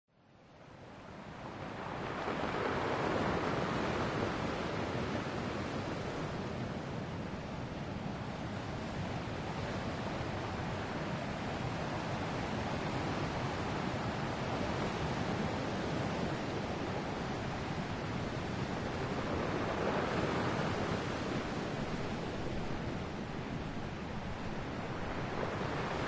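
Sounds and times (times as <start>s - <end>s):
ocean waves washing ashore: 0.3s - 26.0s.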